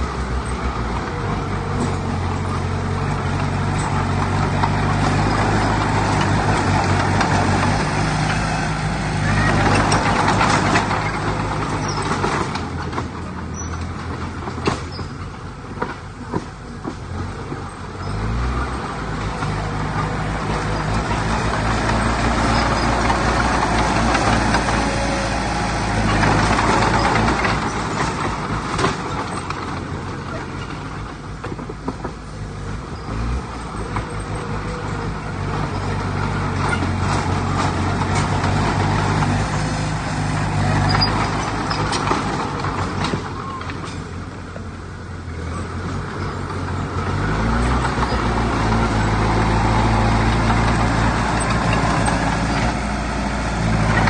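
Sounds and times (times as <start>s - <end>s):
diesel engine under load: 0.0s - 54.0s
rumbling grinding noise: 0.0s - 54.0s.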